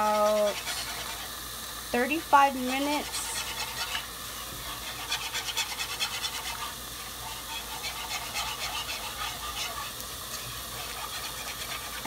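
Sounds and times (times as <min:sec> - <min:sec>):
wire whisk scraping a pan: 0:00.0 - 0:01.4, 0:02.0 - 0:12.0.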